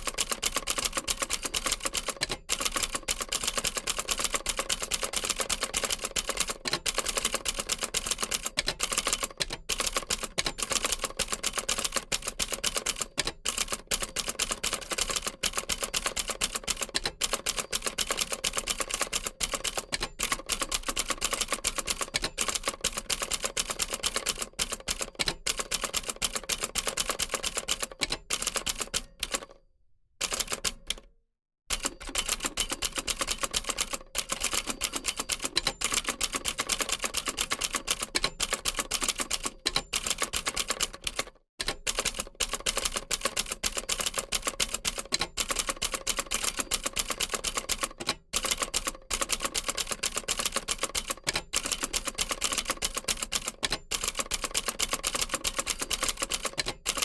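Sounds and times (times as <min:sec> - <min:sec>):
typewriter typing: 0:00.0 - 0:29.5, 0:30.2 - 0:31.0, 0:31.7 - 0:57.0.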